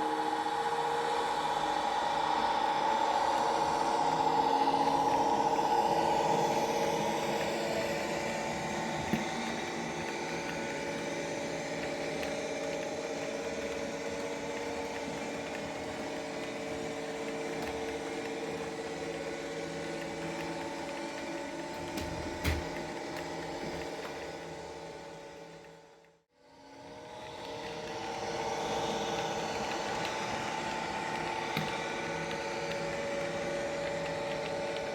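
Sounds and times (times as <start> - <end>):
model train engine drone: 0.0 - 34.9.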